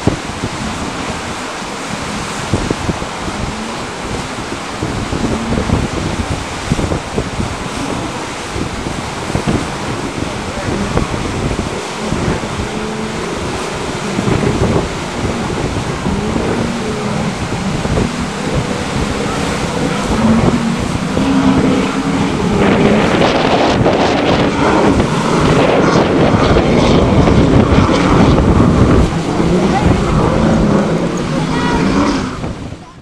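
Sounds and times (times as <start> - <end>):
boat pounding through rough sea: 0.0 - 33.0
powerboat engines droning: 0.0 - 33.0
wind buffeting microphone: 0.0 - 33.0.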